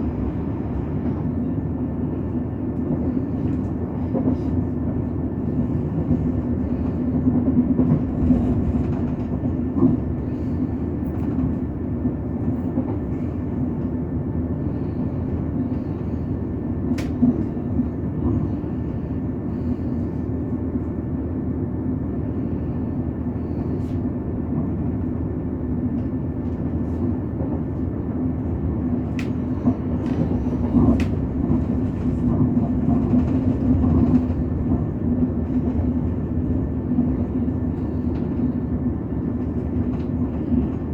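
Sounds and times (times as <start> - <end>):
passenger train rumbling: 0.0 - 40.9.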